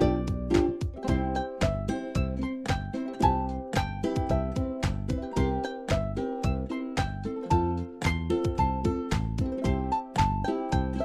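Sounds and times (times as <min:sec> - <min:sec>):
cheerful children's tune: 0:00.0 - 0:11.0.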